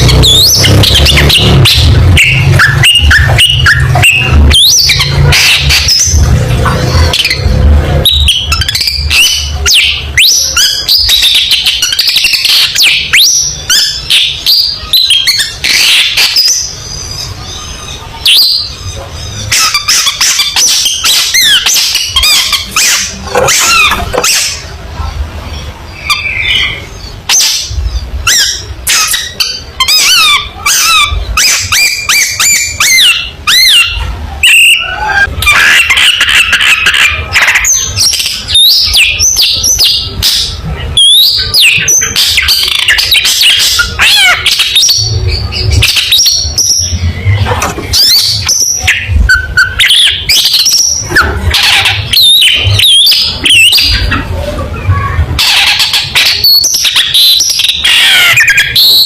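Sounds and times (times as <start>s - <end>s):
bird singing whistles and chatters: 0.0s - 24.8s, 25.6s - 59.0s.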